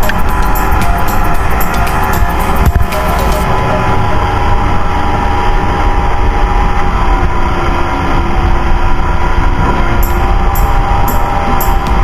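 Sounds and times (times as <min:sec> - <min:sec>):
churning wake: 0:00.0 - 0:12.0
wind: 0:00.0 - 0:12.0.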